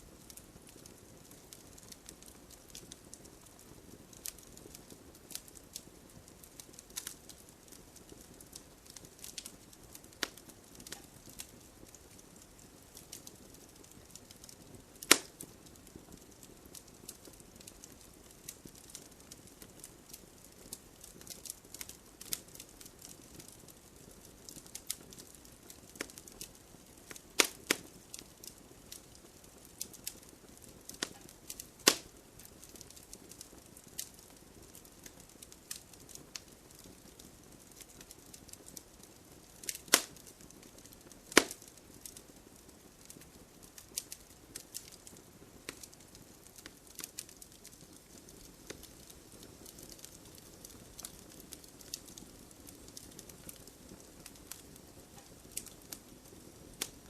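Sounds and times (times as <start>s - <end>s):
faint low hiss: 0.0s - 57.0s
wood fire crackling: 0.0s - 57.0s.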